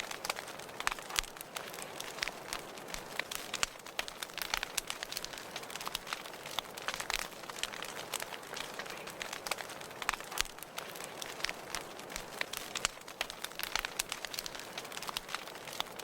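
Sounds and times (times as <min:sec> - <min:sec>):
fire hissing: 0:00.0 - 0:15.9
sharp pops and snaps: 0:00.0 - 0:16.0
wood fire crackling: 0:00.0 - 0:16.0.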